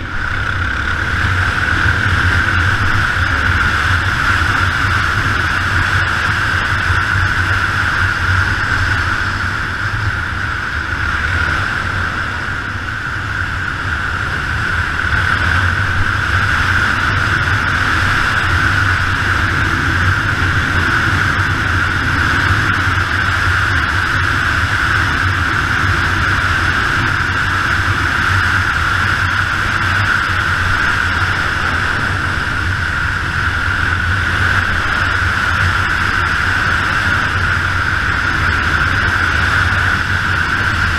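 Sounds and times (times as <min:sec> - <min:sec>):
motorcycle engine running: 0:00.0 - 0:40.9
rushing noise: 0:00.0 - 0:40.9.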